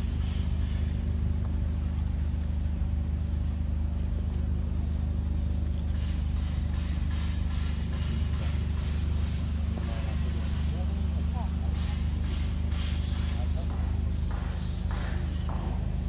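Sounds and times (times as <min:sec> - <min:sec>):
motor running with low rumble: 0:00.0 - 0:16.0.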